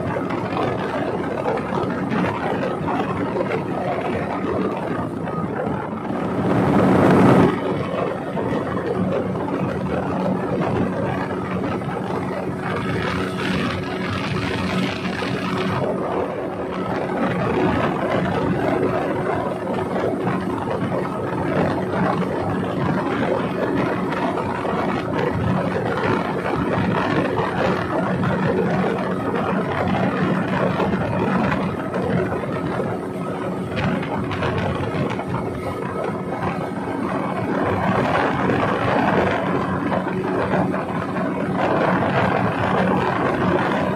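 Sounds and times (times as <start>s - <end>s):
outboard engine running: 0.0s - 43.9s
rushing wind and water: 0.0s - 43.9s.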